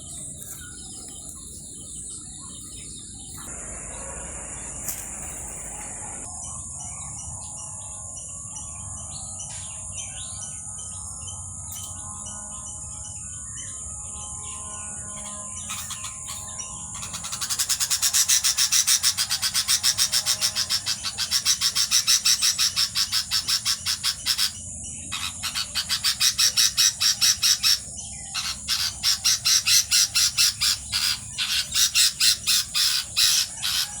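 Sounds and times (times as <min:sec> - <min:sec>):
nestling birds chirping: 0:00.0 - 0:34.0.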